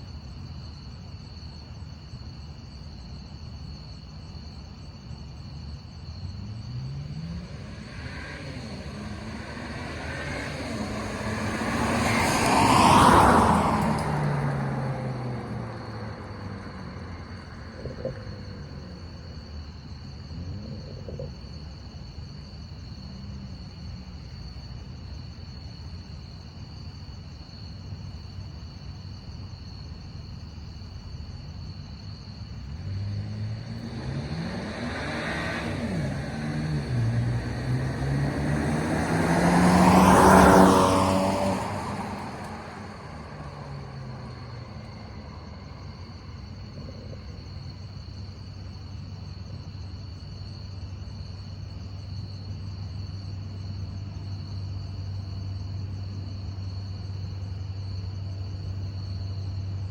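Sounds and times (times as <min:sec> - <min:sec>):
car engine idling and revving: 0:03.2 - 0:59.9.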